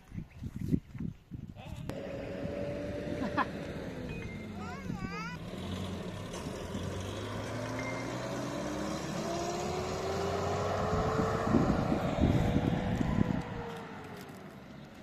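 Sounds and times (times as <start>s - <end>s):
pickup truck accelerating past: 1.9s - 14.4s.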